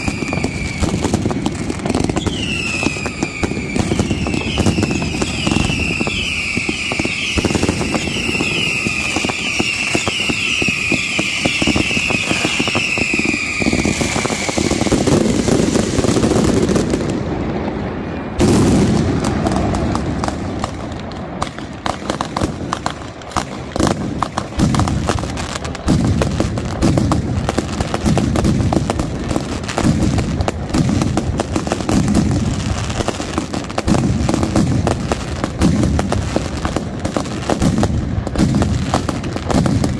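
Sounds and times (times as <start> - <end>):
fireworks crackling: 0.0 - 39.9
fireworks falling whistles: 0.0 - 39.9
rapid firecracker bangs: 0.0 - 39.9.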